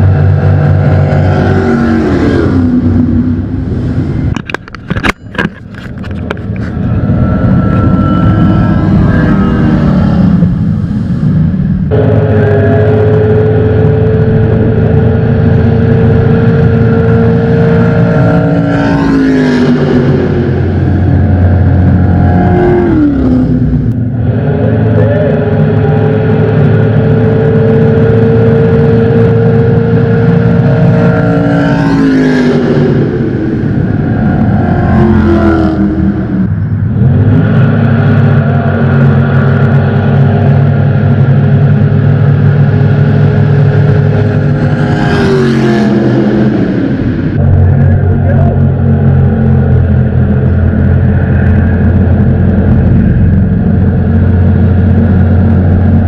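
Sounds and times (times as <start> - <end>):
deep rumble: 0.0 - 56.0
jet boat engines revving: 0.0 - 56.0.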